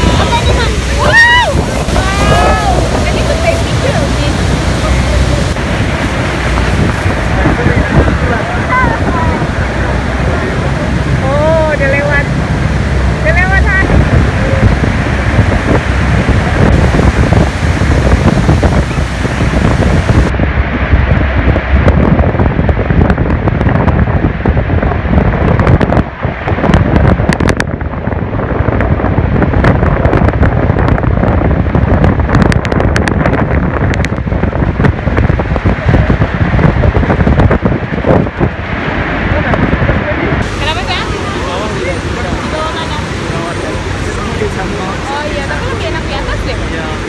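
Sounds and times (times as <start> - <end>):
waterfall roaring: 0.0 - 47.0
wind buffeting microphone: 0.0 - 47.0.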